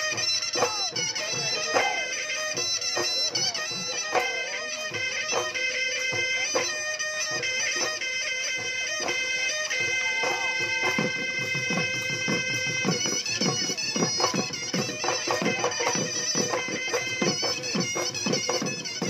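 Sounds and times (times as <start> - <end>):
dhol drums beating: 0.0 - 19.0
reedy horn pipe: 0.0 - 19.0.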